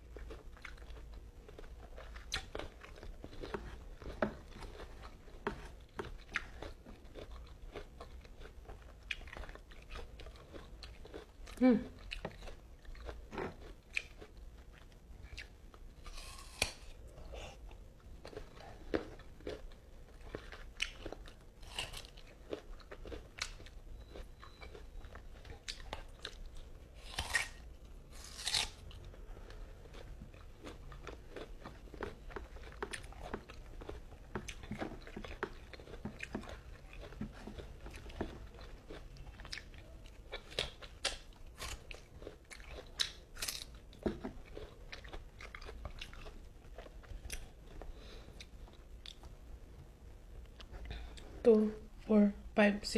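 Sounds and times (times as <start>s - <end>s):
chewing and wet smacking: 0.0s - 28.0s, 28.6s - 51.4s.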